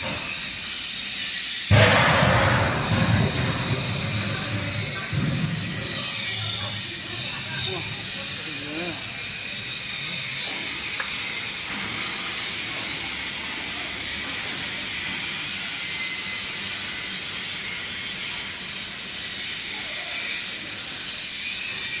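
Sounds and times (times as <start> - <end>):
welding arc hissing: 0.0 - 22.0.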